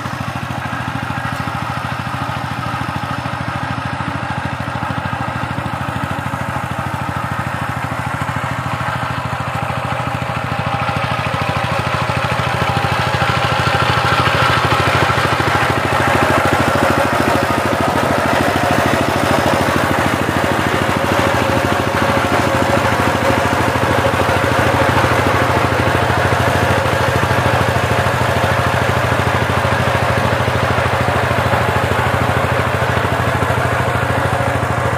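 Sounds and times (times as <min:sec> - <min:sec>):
diesel power tiller engine clatter: 0:00.0 - 0:34.9.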